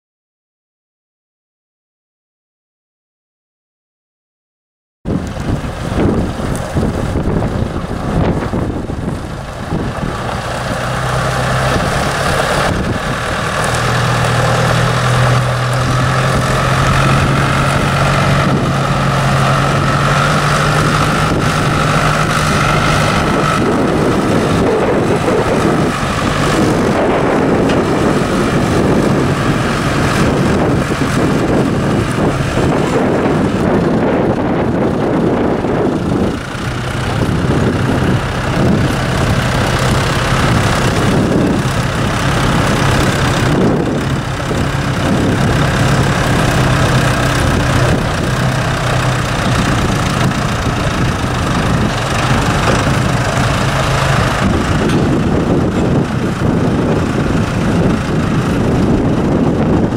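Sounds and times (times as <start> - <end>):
tractor diesel engine humming: 5.1 - 59.9.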